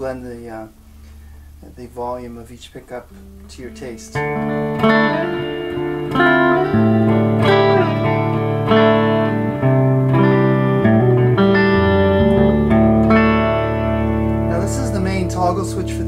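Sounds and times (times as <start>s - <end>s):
electric guitar chords and notes: 3.0s - 16.0s.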